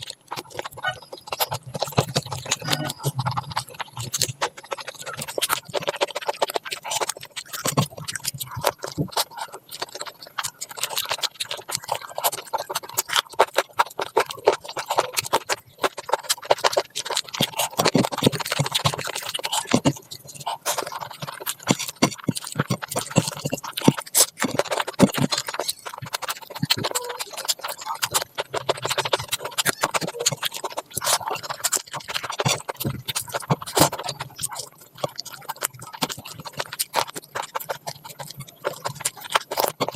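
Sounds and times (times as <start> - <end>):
wet chewing and mouth smacking: 0.0 - 39.9.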